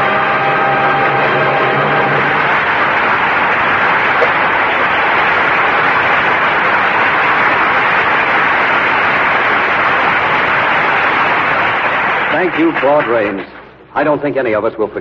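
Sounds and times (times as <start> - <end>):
audience applauding: 1.1 - 14.1.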